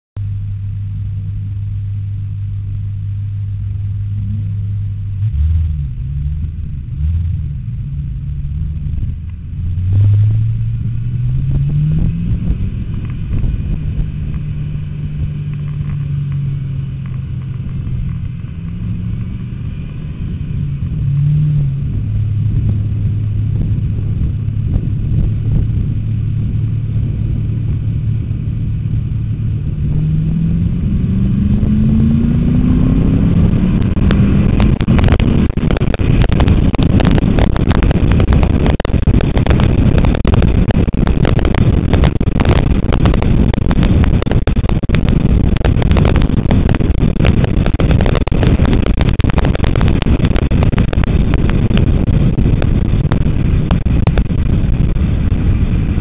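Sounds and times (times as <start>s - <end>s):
car engine idling and driving off: 0.2s - 56.0s.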